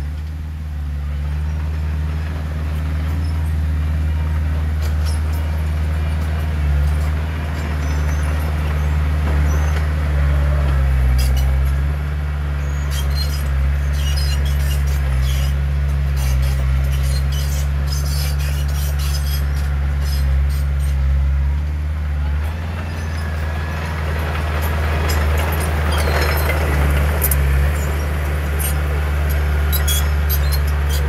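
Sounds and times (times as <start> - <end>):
diesel engine of heavy machinery: 0.0 - 31.0.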